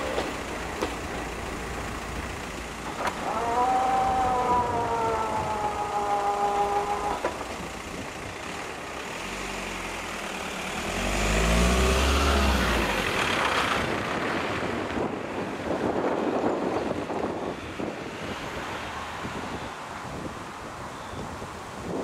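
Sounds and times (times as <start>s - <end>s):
van engine accelerating: 0.0s - 18.0s.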